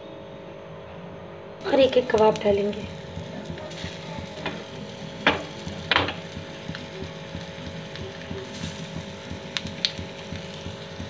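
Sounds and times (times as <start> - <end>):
patties going into oil: 1.6 - 11.0
patties sizzling in oil: 1.6 - 11.0.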